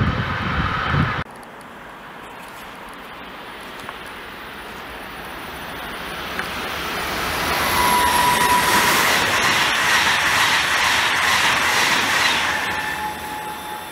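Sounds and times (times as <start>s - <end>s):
passenger train passing: 0.0s - 13.9s.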